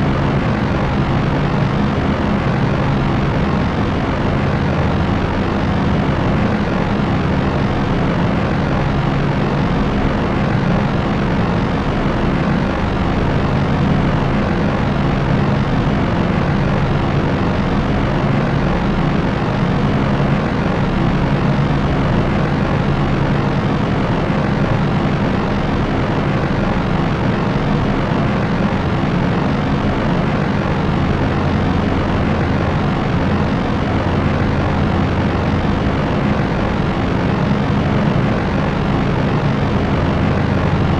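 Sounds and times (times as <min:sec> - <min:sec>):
aircraft propellers droning: 0:00.0 - 0:40.9.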